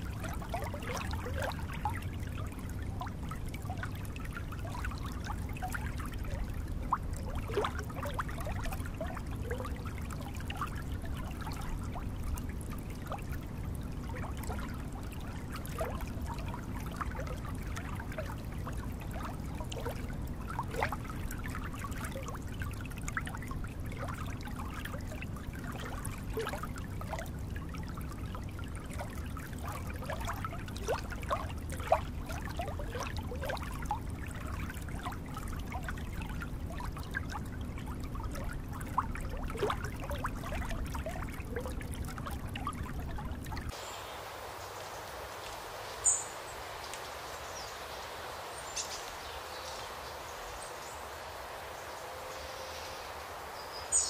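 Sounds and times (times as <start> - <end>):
water trickling over stones: 0.0 - 54.0.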